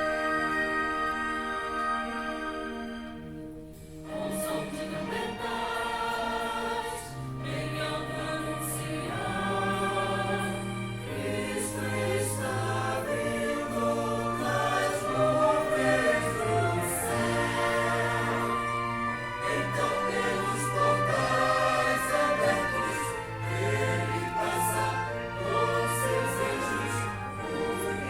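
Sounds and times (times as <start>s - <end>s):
choir singing sacred music: 0.0s - 28.0s.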